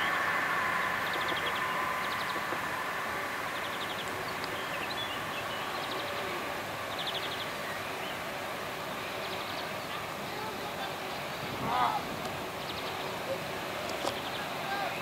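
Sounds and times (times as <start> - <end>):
faint engine whine: 0.0 - 14.6
distant jet engine: 0.0 - 15.0.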